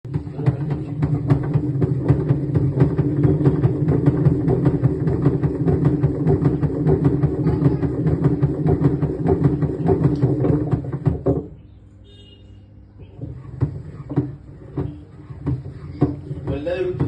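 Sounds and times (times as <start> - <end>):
washing machine hum: 0.0 - 11.6, 12.9 - 17.0
rapid rattling knock: 0.1 - 11.6, 13.1 - 17.0.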